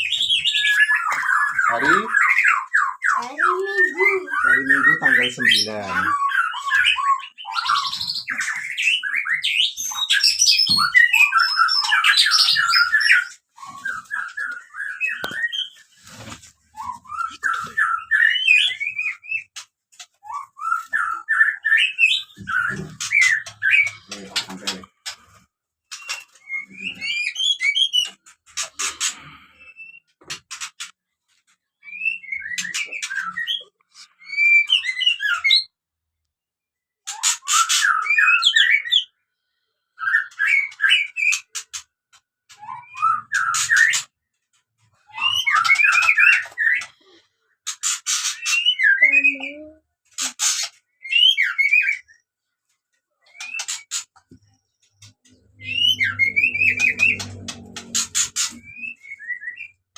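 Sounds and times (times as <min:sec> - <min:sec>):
birds chirping and calling: 0:00.0 - 0:35.8, 0:37.0 - 0:52.3, 0:53.2 - 0:59.9.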